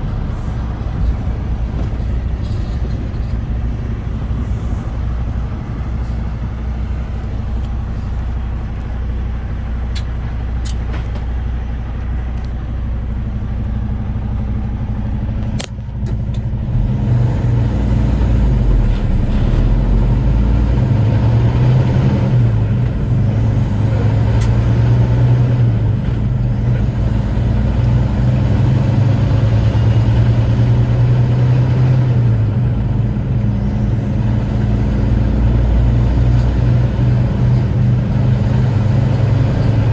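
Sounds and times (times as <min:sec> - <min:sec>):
road noise: 0:00.0 - 0:39.9
truck diesel engine: 0:00.0 - 0:39.9.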